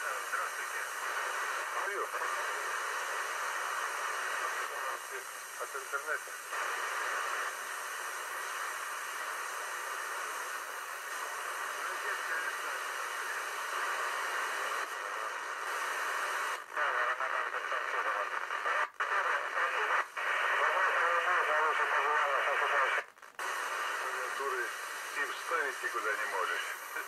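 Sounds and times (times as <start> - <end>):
faint voice over radio: 0.0 - 27.0
radio static hiss: 0.0 - 27.0.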